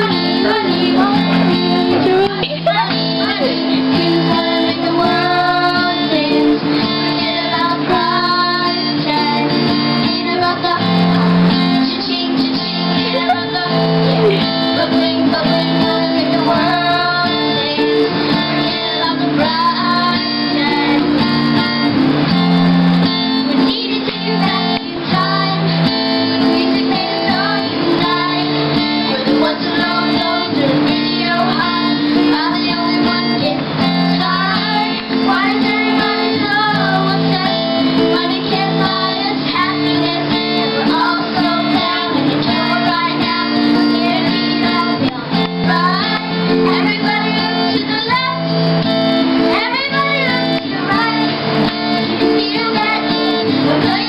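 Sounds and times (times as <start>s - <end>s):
girls singing: 0.0s - 54.0s
pop music with guitar and beat: 0.0s - 54.0s.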